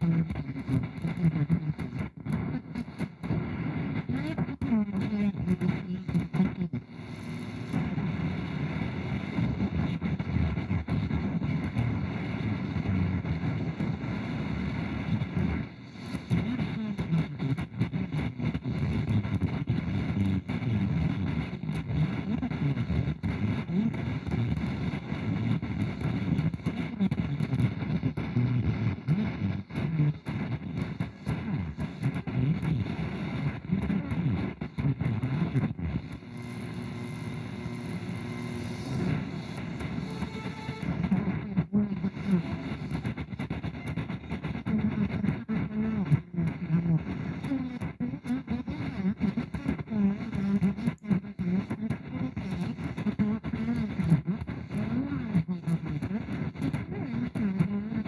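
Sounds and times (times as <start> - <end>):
muffled garbled radio music: 0.0 - 58.0
radio static hiss and crackling: 0.0 - 58.0
steady radio hum: 0.0 - 58.0.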